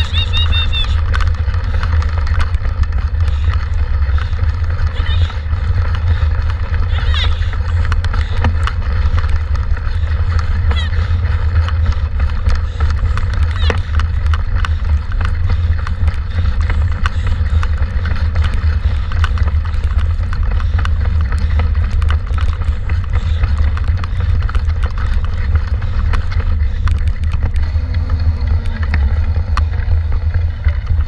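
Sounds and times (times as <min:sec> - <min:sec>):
bike clicks and rattles: 0:00.0 - 0:31.0
bike rumbling over dirt trail: 0:00.0 - 0:31.0.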